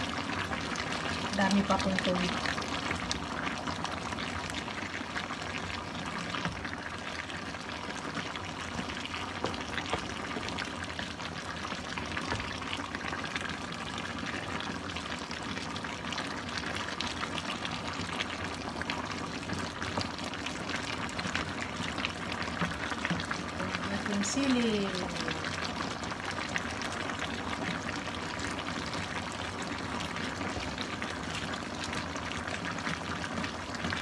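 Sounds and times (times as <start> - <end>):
sauce bubbling in a wok: 0.0 - 34.0.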